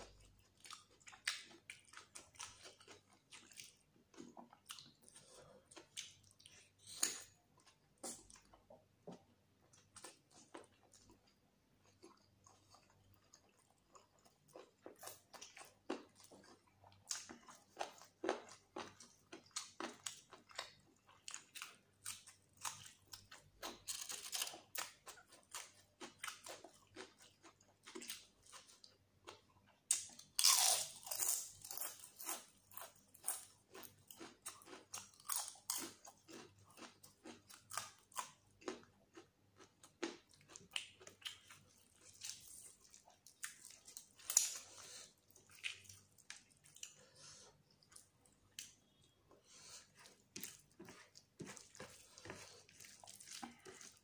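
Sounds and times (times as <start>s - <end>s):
wet chewing and smacking: 0.0s - 30.6s, 31.8s - 54.0s.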